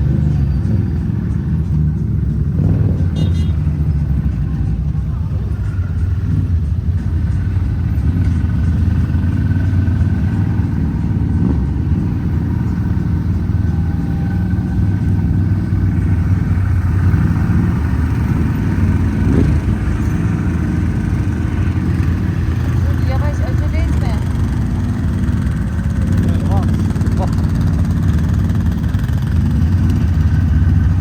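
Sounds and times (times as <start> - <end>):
vehicle engine running steadily: 0.0 - 31.0.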